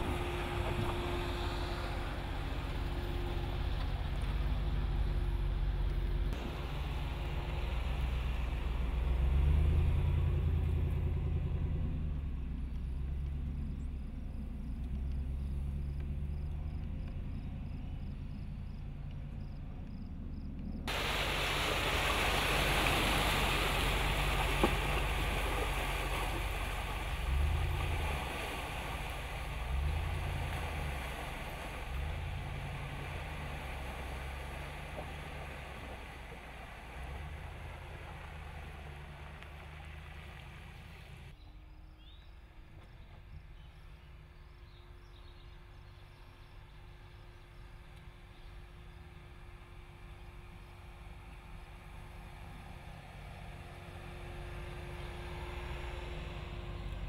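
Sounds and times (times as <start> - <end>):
truck engine revving: 0.0 - 41.4, 51.0 - 57.0
water and mud rushing under tyres: 0.0 - 57.0.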